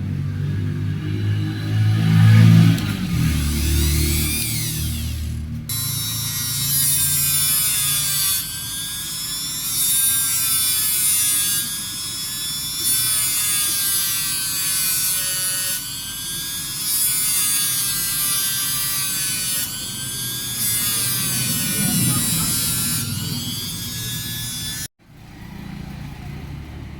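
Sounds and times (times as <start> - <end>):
small motor buzzing: 2.8 - 24.9.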